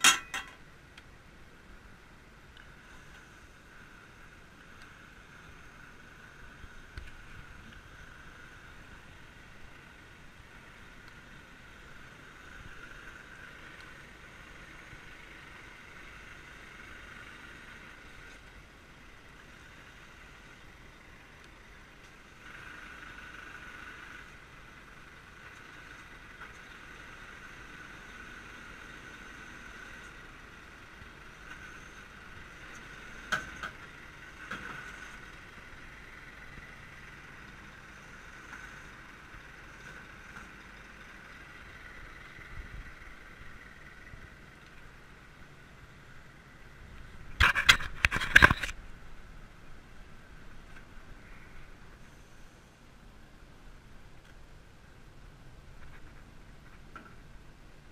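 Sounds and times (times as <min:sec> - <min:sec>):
truck engine idling: 0:00.0 - 0:47.4.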